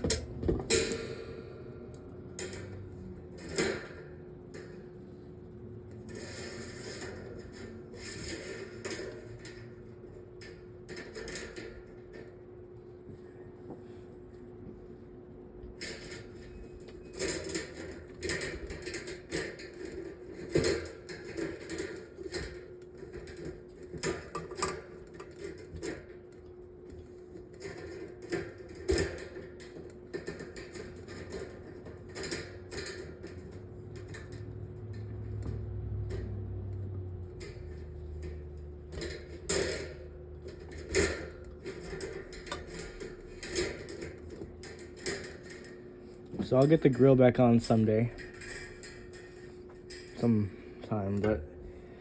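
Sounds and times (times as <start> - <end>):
metal fan parts clattering: 0.0 - 14.7, 15.7 - 52.0.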